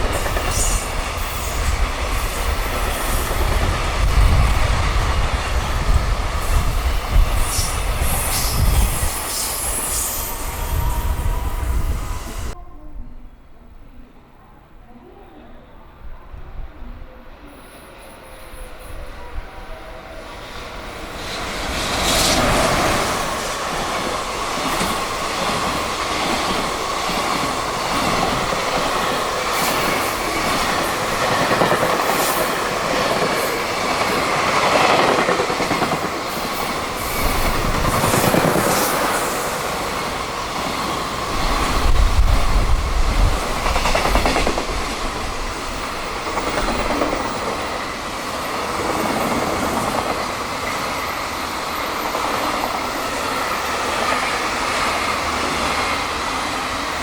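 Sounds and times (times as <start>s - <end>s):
train wheels running over rails: 0.0s - 12.4s, 20.6s - 57.0s
freight trains passing at speed: 0.0s - 57.0s.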